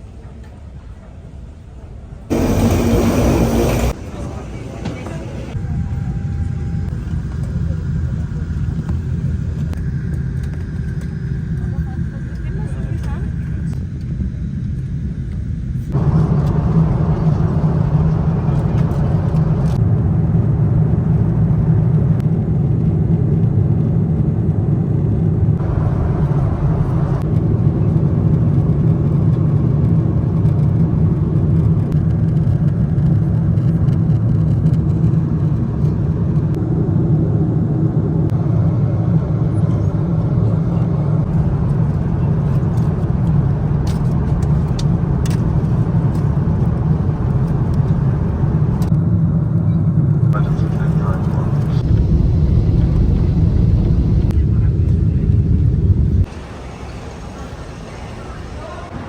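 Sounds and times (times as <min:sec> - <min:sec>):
vehicle rumble: 0:02.2 - 0:59.0.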